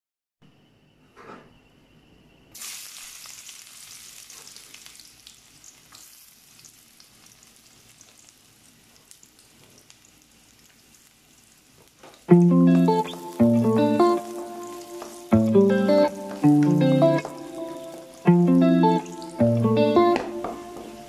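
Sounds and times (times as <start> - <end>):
garlic sizzling in hot fat: 2.5 - 21.0.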